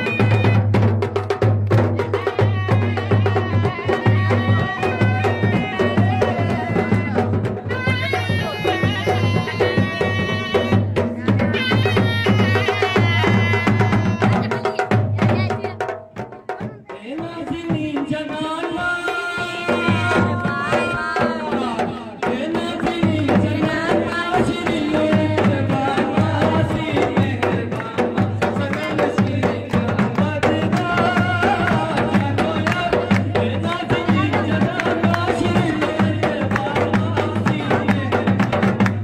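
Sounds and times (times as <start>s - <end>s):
barrel drum beating: 0.0s - 39.0s.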